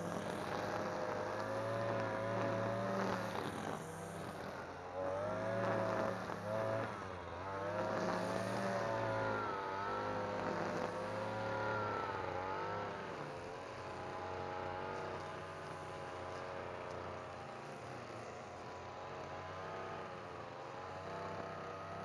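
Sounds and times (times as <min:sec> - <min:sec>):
brush cutter engine at high revs: 0:00.0 - 0:22.0.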